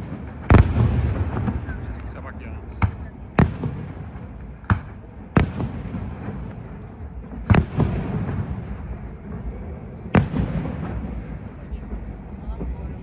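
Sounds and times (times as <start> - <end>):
fireworks bangs: 0.0 - 13.0
fireworks crackles: 0.0 - 13.0
rumbling echo: 0.0 - 13.0.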